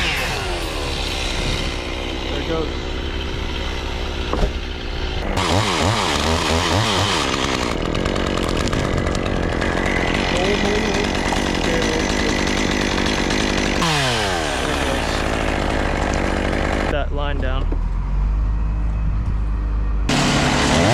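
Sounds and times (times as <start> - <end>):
chainsaw revving: 0.0 - 17.1, 20.1 - 20.9.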